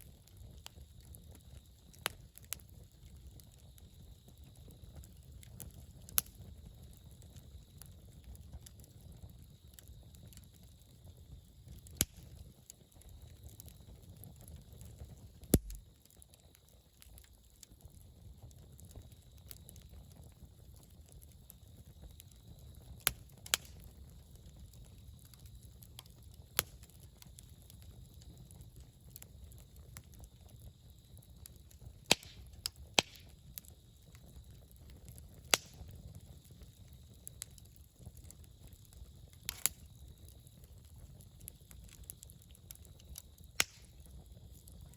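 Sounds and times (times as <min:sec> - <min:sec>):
campfire wood popping: 0:00.0 - 0:44.9
low rumble of flames: 0:00.0 - 0:44.9.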